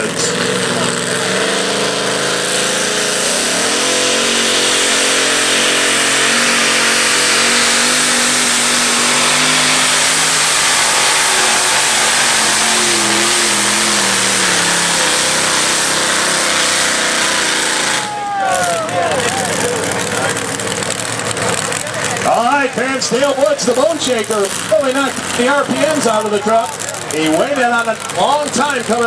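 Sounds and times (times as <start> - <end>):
truck engine at full throttle: 0.0 - 29.0.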